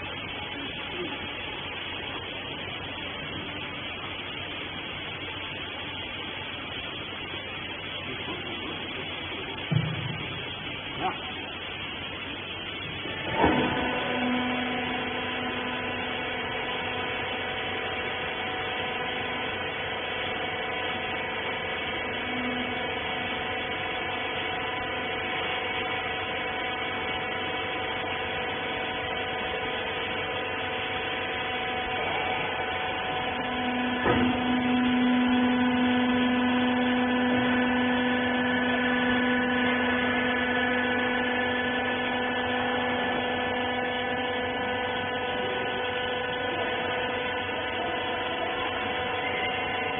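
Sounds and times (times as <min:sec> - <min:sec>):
hydraulic motor and pump hum: 0:00.0 - 0:49.9.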